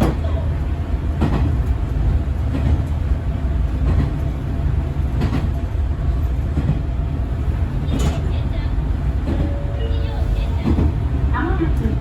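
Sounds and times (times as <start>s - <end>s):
railcar engine rumble: 0.0s - 12.0s.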